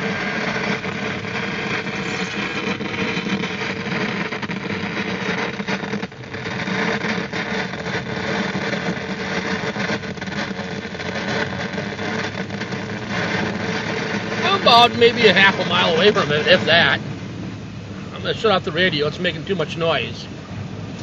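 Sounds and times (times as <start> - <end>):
wind against car: 0.0 - 19.5
car engine and road noise: 0.0 - 21.0.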